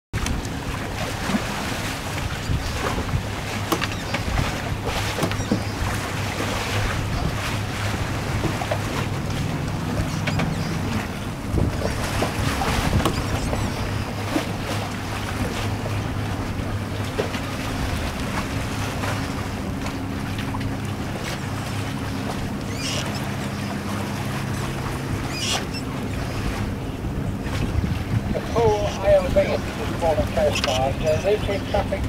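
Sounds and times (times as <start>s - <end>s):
wind buffeting microphone: 0.1s - 22.6s, 26.0s - 32.0s
water splashing along hull: 0.1s - 32.0s.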